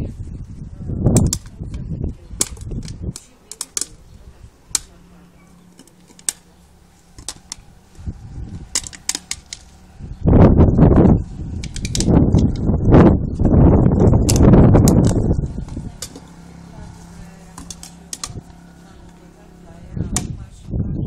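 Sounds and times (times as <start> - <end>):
loud low rumble: 0.0 - 3.2, 3.9 - 21.0.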